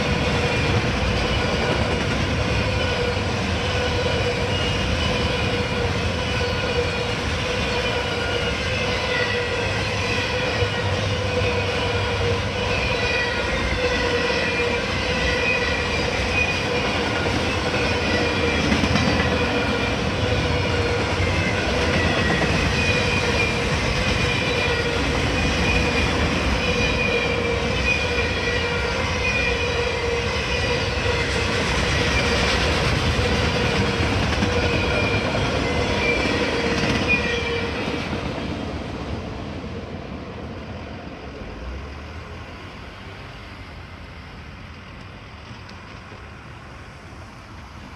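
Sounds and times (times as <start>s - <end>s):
train wheels rolling on rails: 0.0s - 47.9s.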